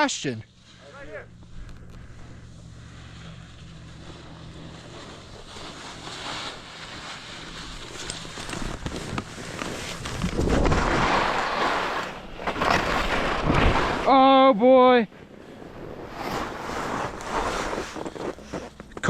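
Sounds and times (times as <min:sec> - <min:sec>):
skis scraping on firm snow: 0:02.1 - 0:19.0.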